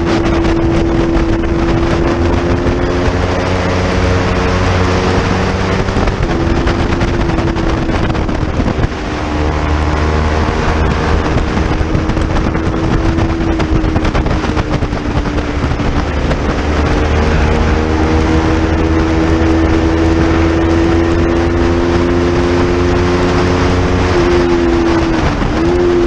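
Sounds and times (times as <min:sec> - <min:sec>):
motorcycle engine running hard: 0:00.0 - 0:26.0
wind rushing over microphone: 0:00.0 - 0:26.0.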